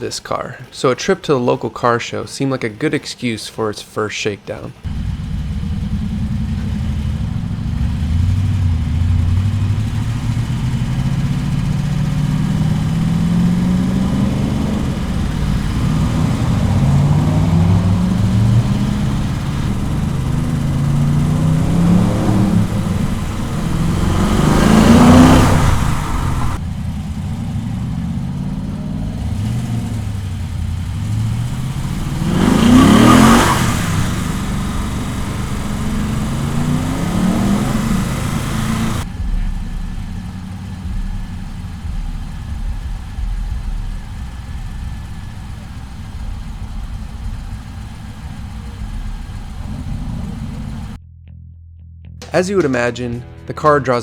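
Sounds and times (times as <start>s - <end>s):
car engine accelerating through gears: 4.8s - 51.0s.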